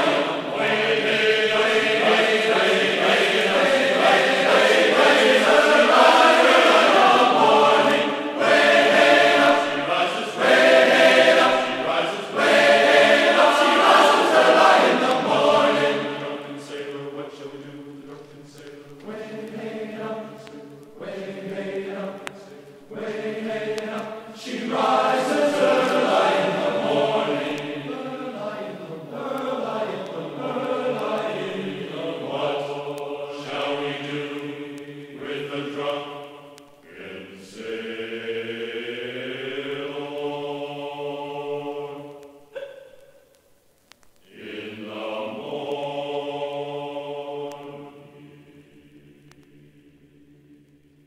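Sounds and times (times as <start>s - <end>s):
slow vocal chant: 0.0s - 43.2s, 44.2s - 51.0s.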